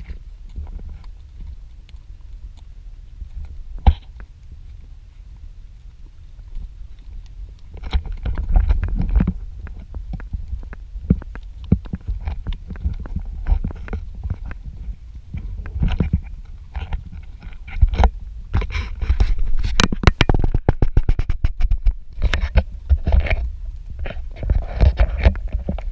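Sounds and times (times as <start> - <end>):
wind rumbling on microphone: 0.0 - 25.9.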